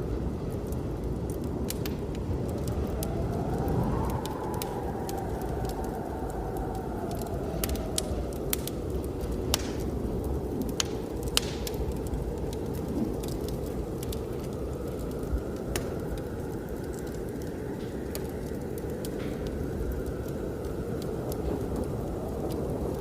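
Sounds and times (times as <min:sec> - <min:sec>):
blizzard wind rushing: 0:00.0 - 0:23.0
whistling wind: 0:00.0 - 0:23.0
wood fire crackling: 0:00.0 - 0:23.0.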